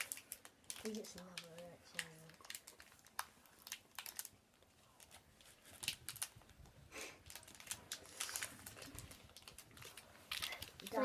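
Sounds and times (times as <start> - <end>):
foil wrapper tearing and crackling: 0.0 - 11.0.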